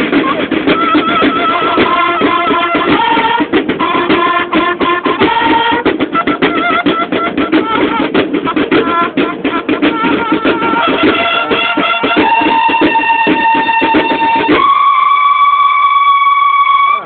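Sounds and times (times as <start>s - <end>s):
bugles playing: 0.0s - 17.0s
snare drum strokes: 0.0s - 17.0s.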